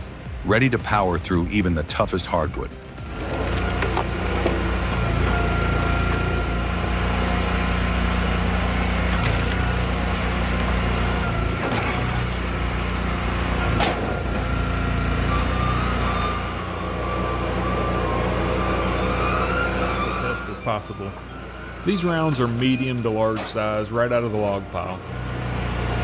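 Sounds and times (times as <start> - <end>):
small engine running: 2.8 - 26.0.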